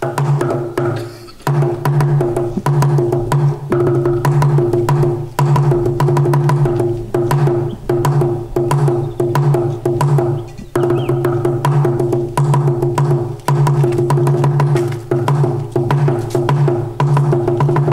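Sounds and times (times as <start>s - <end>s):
low pulsing drum tones: 0.0s - 17.9s.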